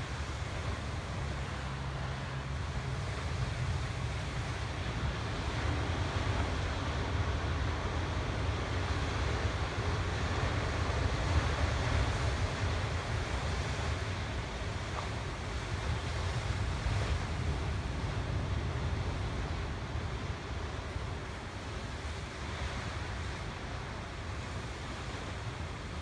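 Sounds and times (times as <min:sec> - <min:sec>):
surf breaking over rocks: 0:00.0 - 0:26.0
wind buffeting microphone: 0:00.0 - 0:26.0.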